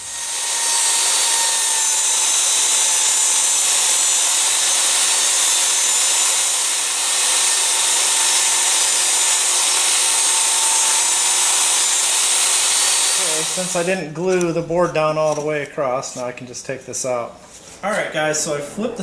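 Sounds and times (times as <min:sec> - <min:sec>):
table saw cutting plywood: 0:00.0 - 0:17.1.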